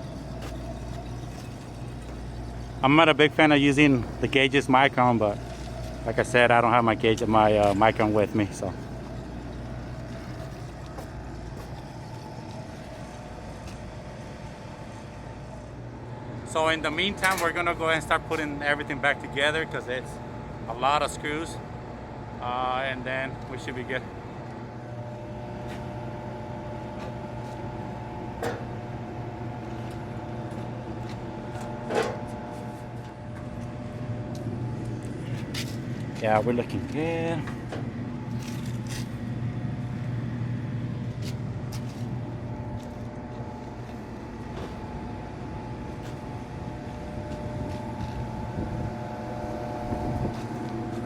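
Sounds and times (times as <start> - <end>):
vacuum pump humming: 0.0 - 51.0.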